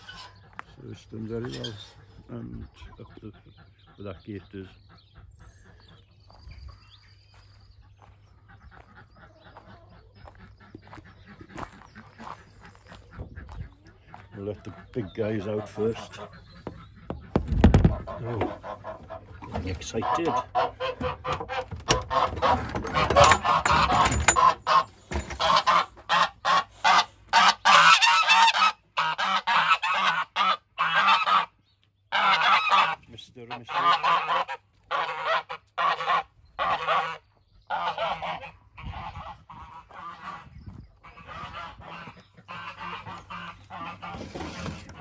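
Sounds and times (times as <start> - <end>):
geese honking: 0.0 - 6.2, 7.8 - 45.0.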